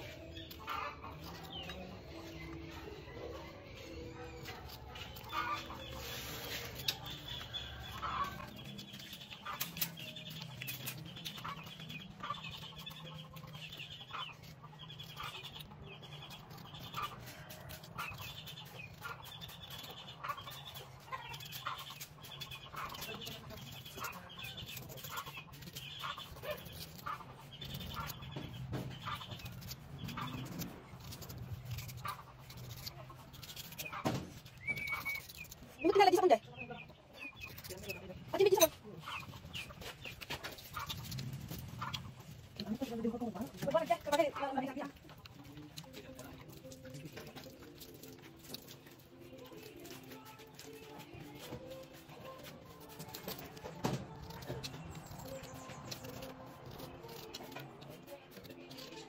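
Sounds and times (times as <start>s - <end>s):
chickens calling: 0.0s - 59.0s.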